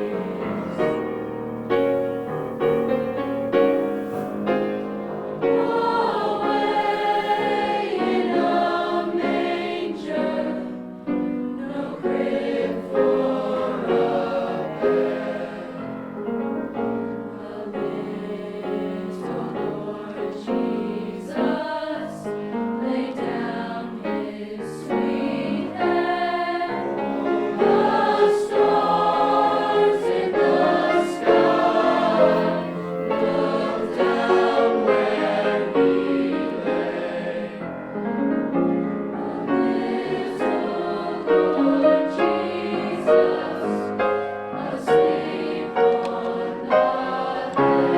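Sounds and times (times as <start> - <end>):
choir singing in parts: 0.0 - 47.9.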